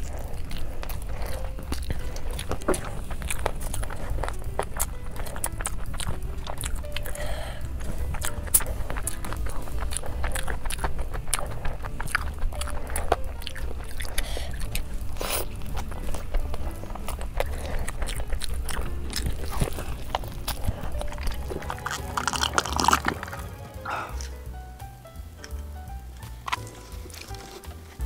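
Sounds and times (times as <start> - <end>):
crisp crunches: 0.0 - 24.3, 26.4 - 28.0
person chewing crunchy food: 0.0 - 24.4, 26.2 - 28.0
background music: 0.0 - 28.0.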